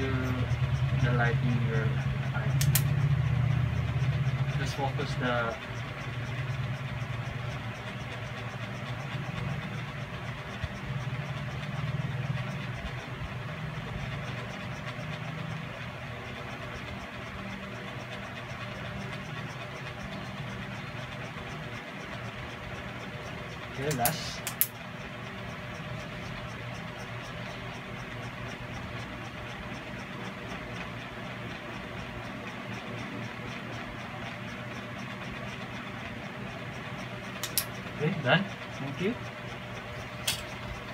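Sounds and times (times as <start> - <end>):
faint even ticking: 0.0 - 40.9
low machine hum: 0.0 - 40.9.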